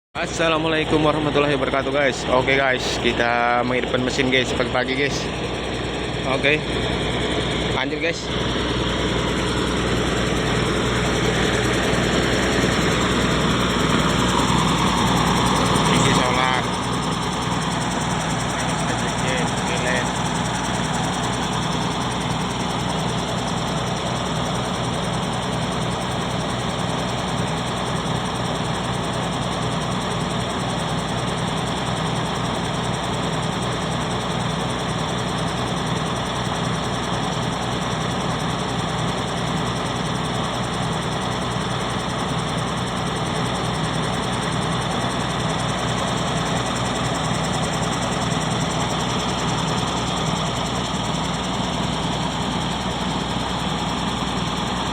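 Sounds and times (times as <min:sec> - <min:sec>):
diesel water pump engine running: 0:00.2 - 0:54.9.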